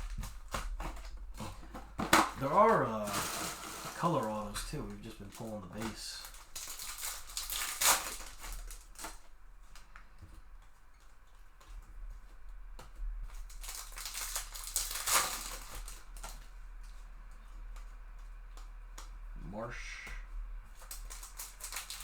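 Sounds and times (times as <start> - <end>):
foil wrappers crinkling: 0.0 - 12.4, 13.2 - 22.0.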